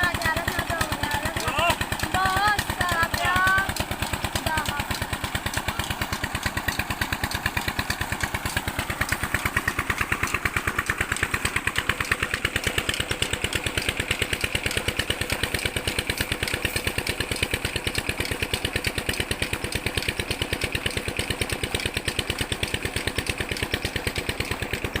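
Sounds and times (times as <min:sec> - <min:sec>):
diesel water pump engine running: 0:00.0 - 0:25.0.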